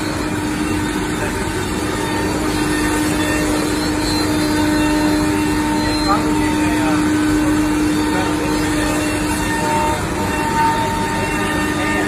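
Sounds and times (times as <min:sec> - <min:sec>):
router machine drone: 0:00.0 - 0:12.0.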